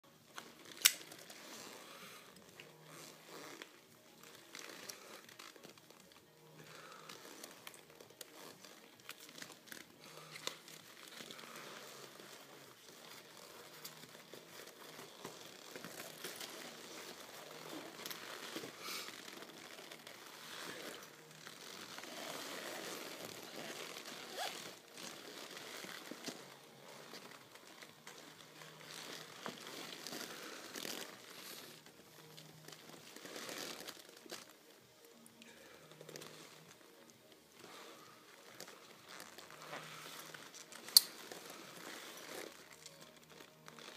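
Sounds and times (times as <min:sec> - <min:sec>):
leather creaking and rustling: 0:00.1 - 0:43.9.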